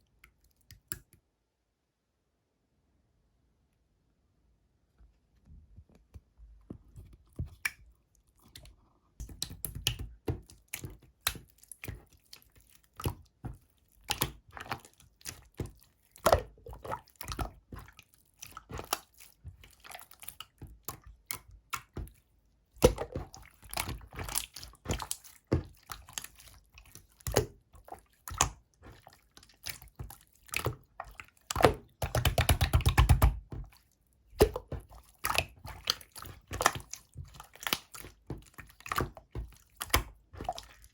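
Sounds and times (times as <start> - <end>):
slime squished by hand: 7.1 - 40.9.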